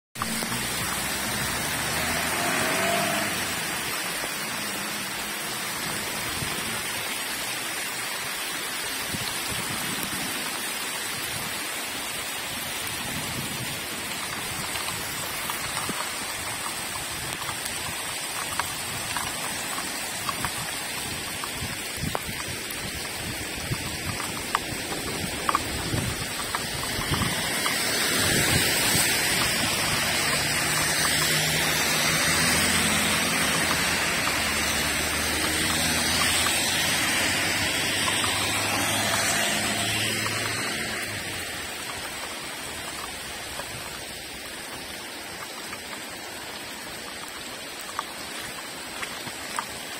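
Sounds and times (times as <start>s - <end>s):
car tyres swishing on wet road: 0.2s - 49.9s
heavy rain on road: 0.2s - 49.9s.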